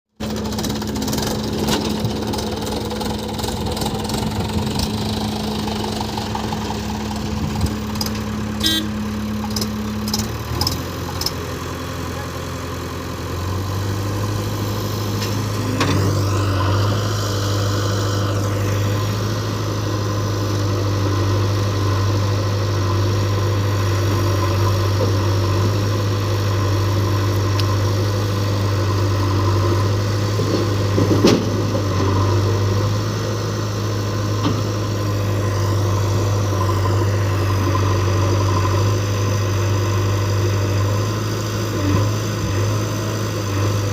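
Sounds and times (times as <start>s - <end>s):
diesel engines running: 0.2s - 43.9s.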